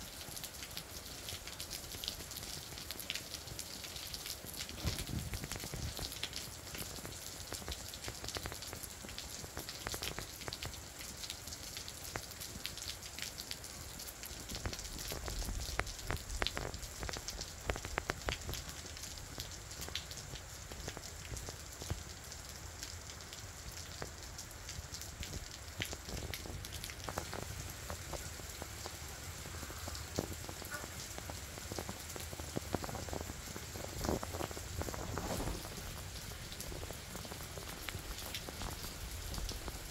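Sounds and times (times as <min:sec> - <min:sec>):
raindrops striking close by: 0:00.0 - 0:39.9
steady rain falling: 0:00.0 - 0:39.9.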